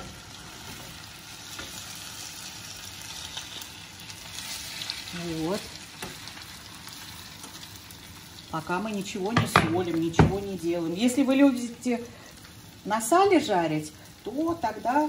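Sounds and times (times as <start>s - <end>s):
potatoes sizzling in a frying pan: 0.0s - 15.0s.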